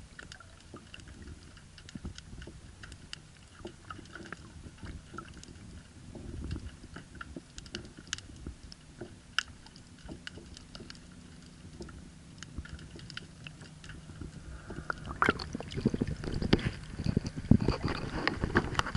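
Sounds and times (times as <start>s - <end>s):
underwater clicks and crackles: 0.0s - 18.9s.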